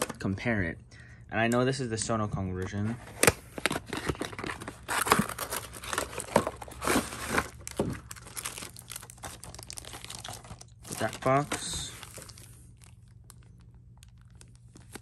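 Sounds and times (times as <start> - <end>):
cardboard and plastic wrap crinkling: 2.7 - 15.0.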